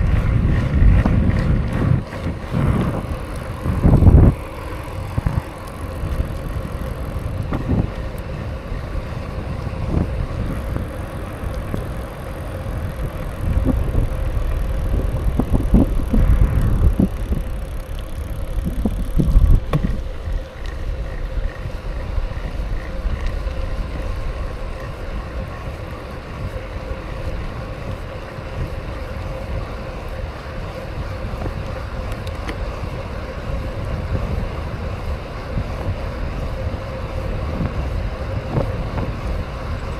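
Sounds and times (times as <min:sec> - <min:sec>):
bike frame rattling: 0:00.0 - 0:39.9
bike tyres rumbling: 0:00.0 - 0:39.9.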